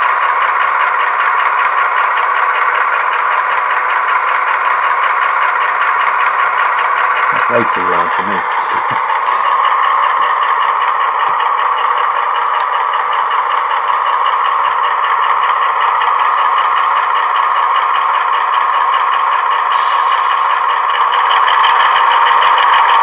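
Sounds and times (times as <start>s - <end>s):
model locomotive diesel engine: 0.0s - 23.0s.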